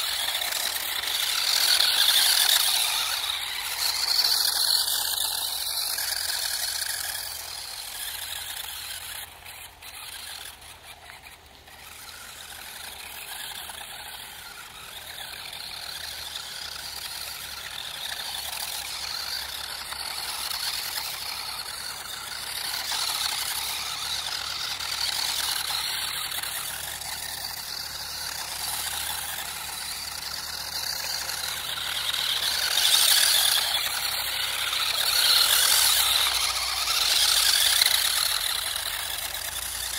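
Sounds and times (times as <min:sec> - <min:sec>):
rc car motor whine: 0:00.0 - 0:39.9.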